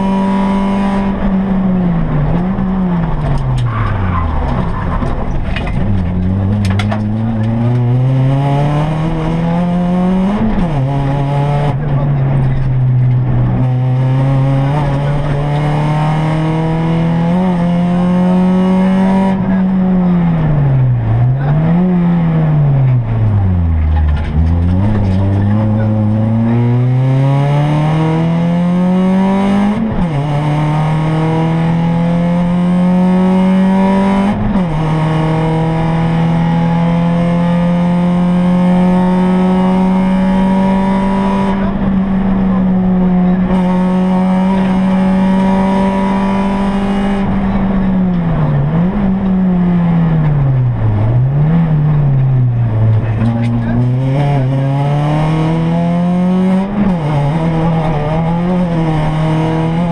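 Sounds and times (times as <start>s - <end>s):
gear changes: 0.0s - 59.9s
rally car engine revving: 0.0s - 59.9s.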